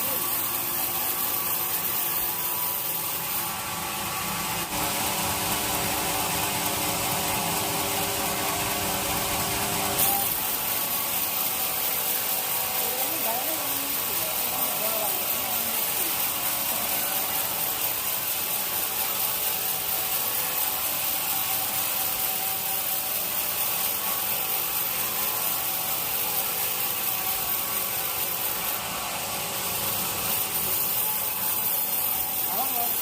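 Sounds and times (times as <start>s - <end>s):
sawmill saw cutting log: 0.0s - 33.0s.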